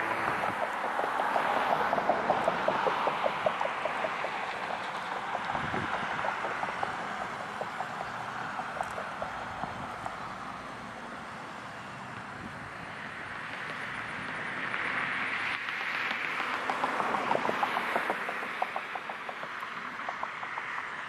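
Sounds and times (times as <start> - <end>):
passing vehicle: 0.0 - 21.0.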